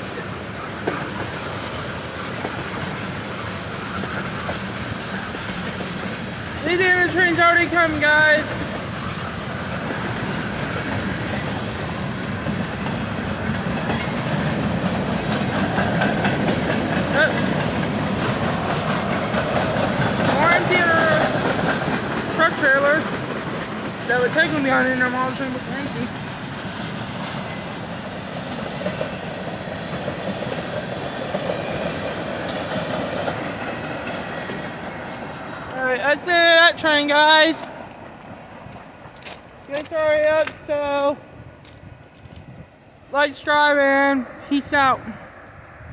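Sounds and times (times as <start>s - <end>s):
clickety-clack over rail joints: 0.0s - 44.4s
train wheels rumbling on rails: 0.0s - 45.9s.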